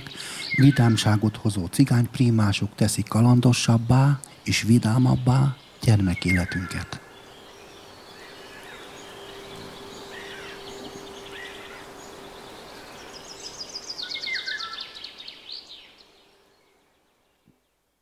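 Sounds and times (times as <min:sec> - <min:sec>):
steady low hum: 0:00.0 - 0:15.3
birds chirping and singing: 0:00.0 - 0:17.4.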